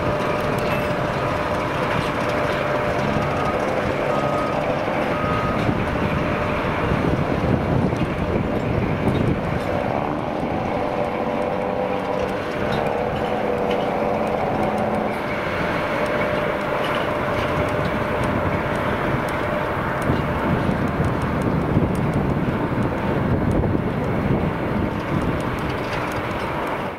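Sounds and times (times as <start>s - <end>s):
steady tones: 0.0s - 24.9s
diesel locomotive rumbling: 0.0s - 26.9s.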